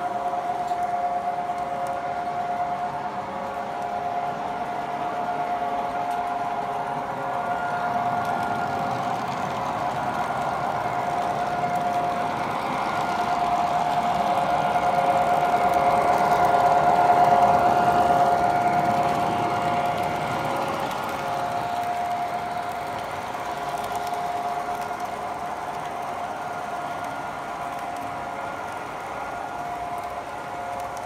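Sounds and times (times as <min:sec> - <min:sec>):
model train motors and wheels humming: 0:00.0 - 0:31.0.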